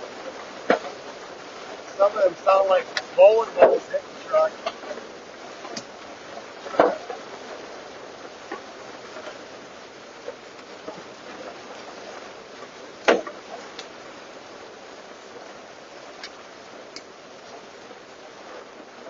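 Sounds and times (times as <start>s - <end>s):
hailstones striking a truck: 0.0s - 19.0s
rain hiss: 0.0s - 19.0s.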